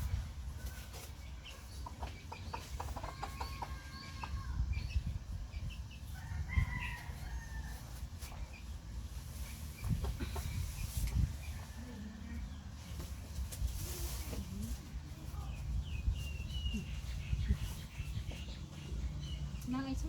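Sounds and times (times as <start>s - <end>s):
chickens clucking: 0.0s - 19.9s.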